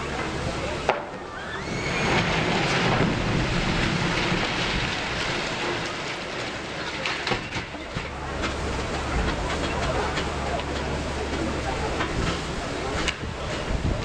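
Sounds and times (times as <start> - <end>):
building debris crashing down: 0.0 - 14.0.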